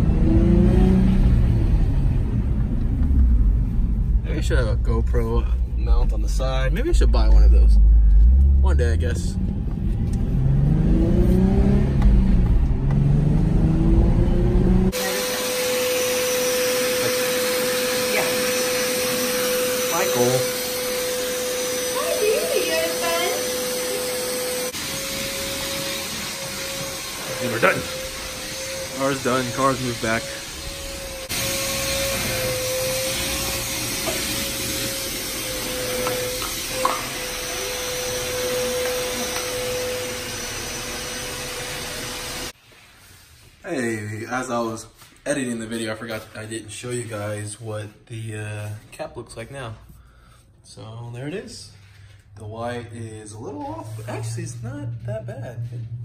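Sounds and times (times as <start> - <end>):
car engine accelerating: 0.0 - 42.6, 52.4 - 56.0
shop vacuum running with whine: 0.0 - 42.6, 50.7 - 56.0.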